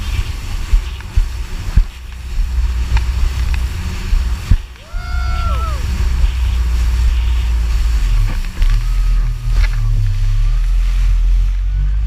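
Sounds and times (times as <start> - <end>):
jet ski engine rumble: 0.0 - 12.0
wind buffeting camera: 0.0 - 12.0.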